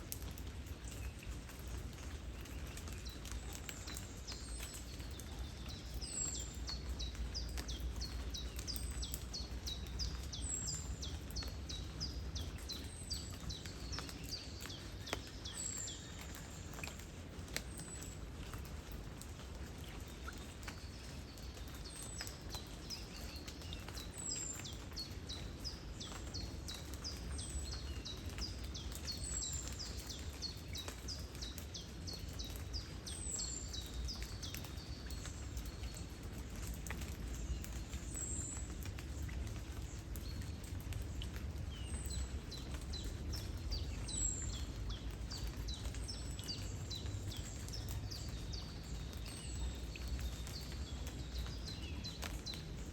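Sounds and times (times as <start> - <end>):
light rain ticks: 0.0 - 52.9
small birds chirping: 0.1 - 52.9.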